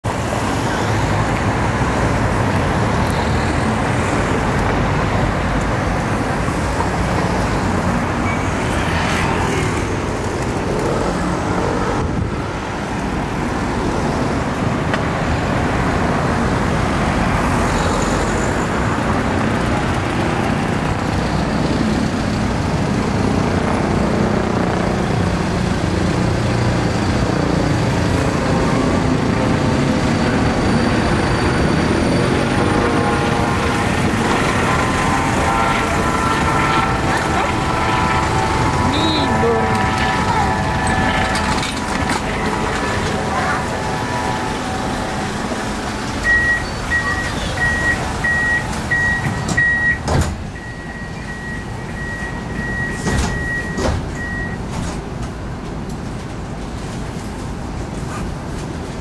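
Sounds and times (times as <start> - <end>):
road vehicles passing: 0.0 - 59.0
tram approaching: 0.1 - 52.7.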